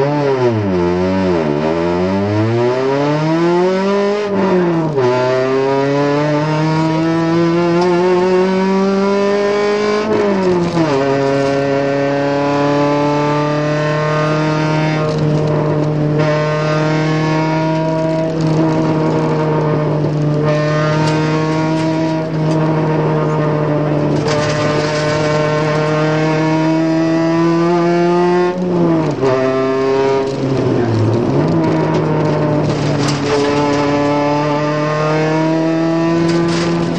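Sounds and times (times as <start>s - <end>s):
rally car engine from inside: 0.0s - 36.9s.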